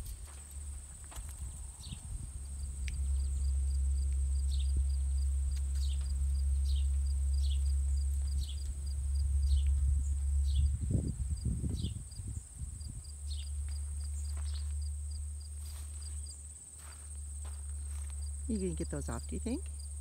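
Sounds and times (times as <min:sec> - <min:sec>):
insects droning with pulsing chirp: 0:00.0 - 0:20.0
steady low rumble: 0:00.0 - 0:20.0.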